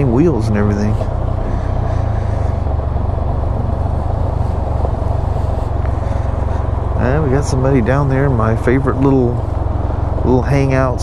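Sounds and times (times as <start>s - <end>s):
motorcycle engine droning: 0.0s - 11.0s
road and wind noise: 0.0s - 11.0s.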